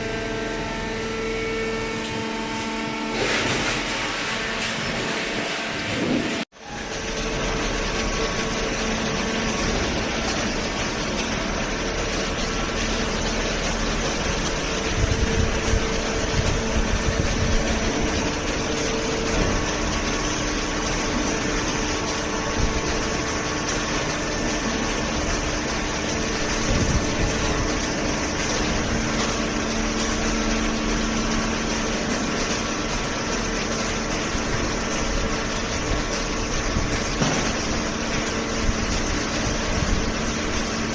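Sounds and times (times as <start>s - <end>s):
hydraulic baler running: 0.0s - 40.9s
heavy low rumbling: 2.9s - 40.9s.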